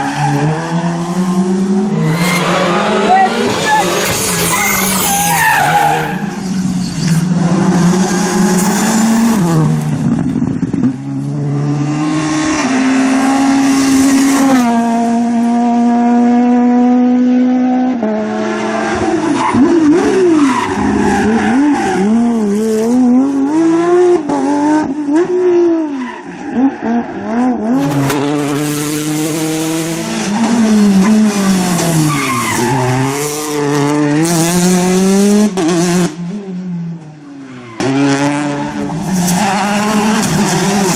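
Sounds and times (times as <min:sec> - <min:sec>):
rally car engine revving: 0:00.0 - 0:25.9, 0:26.6 - 0:36.8, 0:37.6 - 0:40.9.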